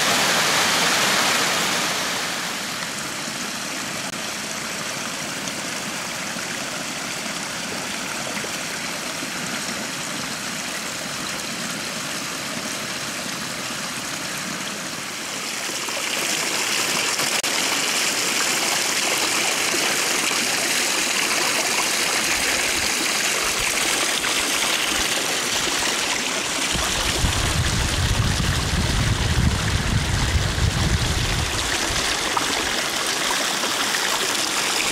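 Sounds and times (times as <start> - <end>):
brook trickling: 2.6 - 34.9.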